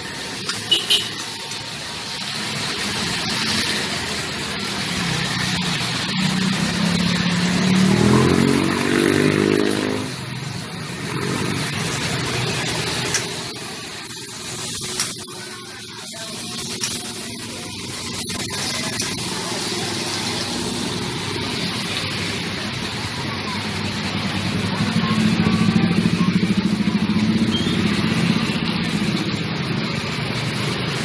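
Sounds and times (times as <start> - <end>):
motorcycle passing: 0.0 - 31.0
street and cooking noise hiss: 0.0 - 31.0.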